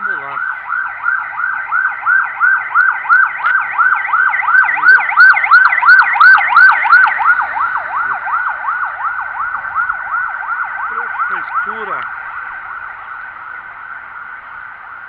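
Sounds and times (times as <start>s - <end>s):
ambulance siren yelping: 0.0s - 15.0s.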